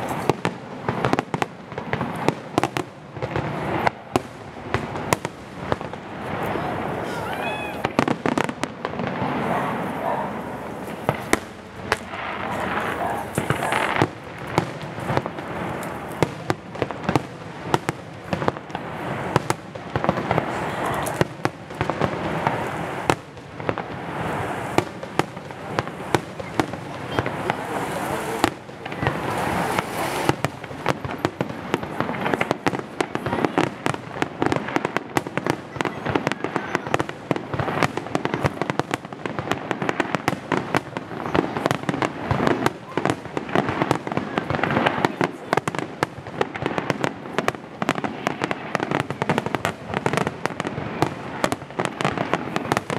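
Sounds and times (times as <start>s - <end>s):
fireworks bursting with bangs and crackles: 0.0s - 52.9s.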